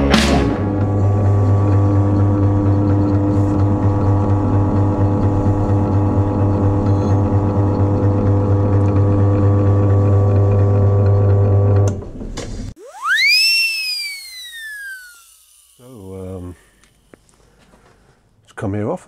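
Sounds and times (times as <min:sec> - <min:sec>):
drill motor humming: 0:00.6 - 0:11.8, 0:12.8 - 0:17.3.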